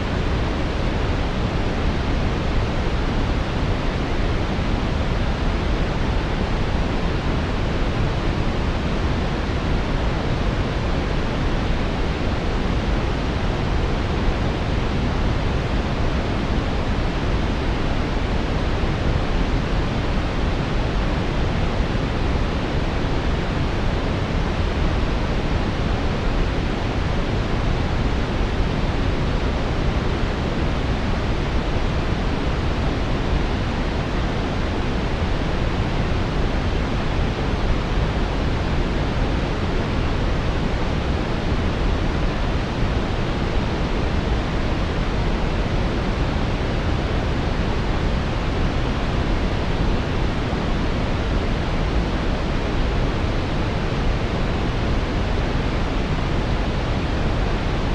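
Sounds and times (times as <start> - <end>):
brown noise hiss: 0.0 - 57.9.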